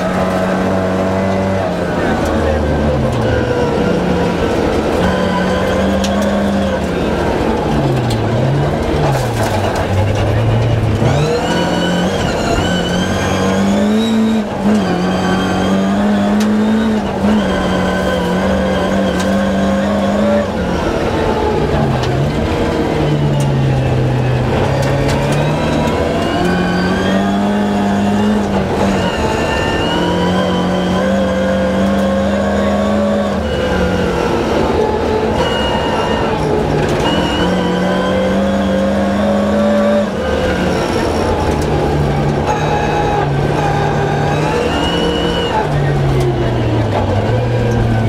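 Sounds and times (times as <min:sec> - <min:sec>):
rally car engine revving: 0:00.0 - 0:48.0.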